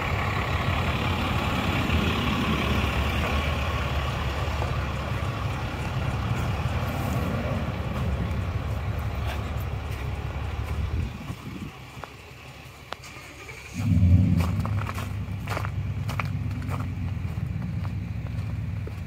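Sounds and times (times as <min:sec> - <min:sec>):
vehicle driving road noise: 0:00.0 - 0:19.0.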